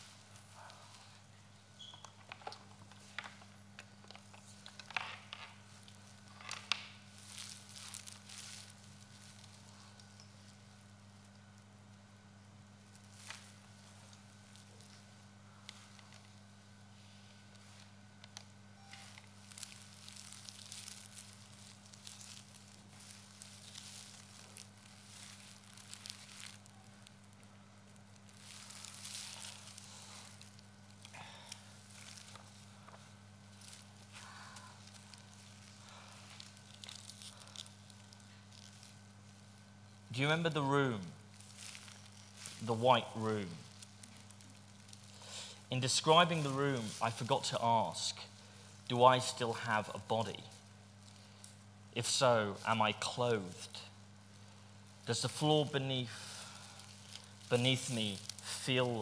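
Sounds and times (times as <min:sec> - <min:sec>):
steady low hum: 0:00.0 - 0:59.0
tape crinkling and rustling: 0:01.8 - 0:12.0, 0:12.8 - 0:16.5, 0:17.2 - 0:51.8, 0:52.4 - 0:59.0.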